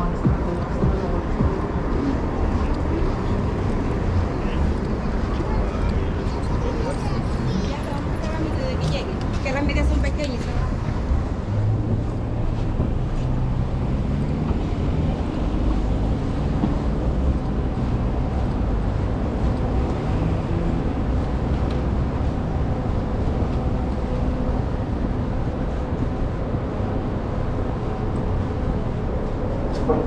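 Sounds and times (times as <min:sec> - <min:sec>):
city street traffic rumble: 0:00.0 - 0:30.0.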